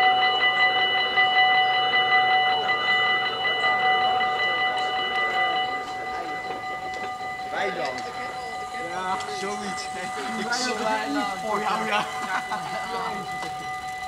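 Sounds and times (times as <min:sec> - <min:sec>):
level crossing bells ringing: 0:00.0 - 0:14.0.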